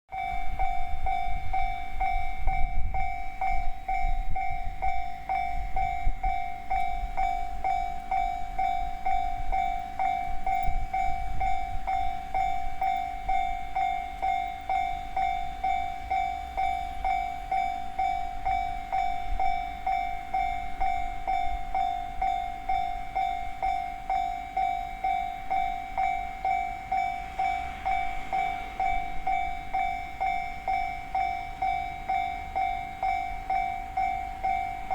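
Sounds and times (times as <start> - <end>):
freight train wheels rumbling: 0.1 - 34.9
level-crossing warning bell: 0.1 - 34.9.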